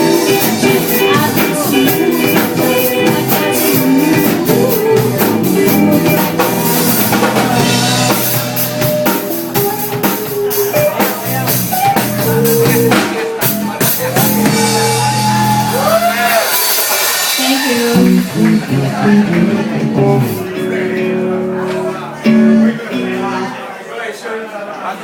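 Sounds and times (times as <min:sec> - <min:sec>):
drum kit: 0:00.0 - 0:23.2
guitar: 0:00.0 - 0:23.9.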